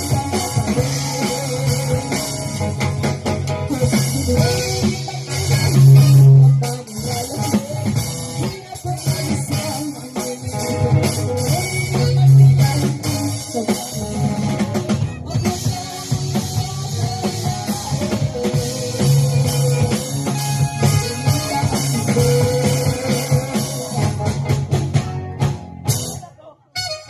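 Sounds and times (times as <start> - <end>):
live pop-rock band playing: 0.0 - 27.0.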